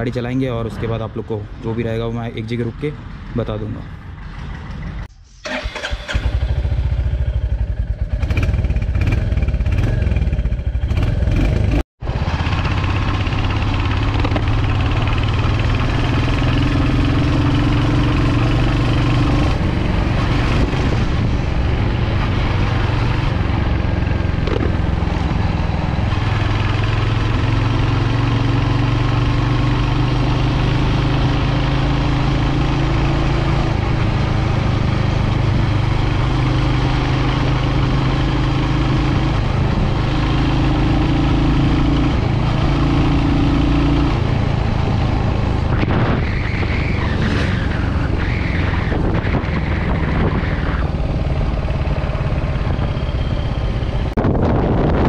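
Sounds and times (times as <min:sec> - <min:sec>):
motorcycle engine running: 0:04.0 - 0:46.2, 0:49.0 - 0:55.0.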